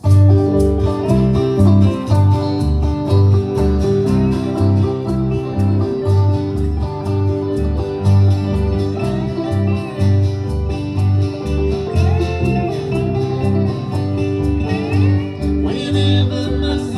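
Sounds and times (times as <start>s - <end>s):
bluegrass band playing: 0.0s - 16.9s
pulsing bass line: 0.0s - 16.9s.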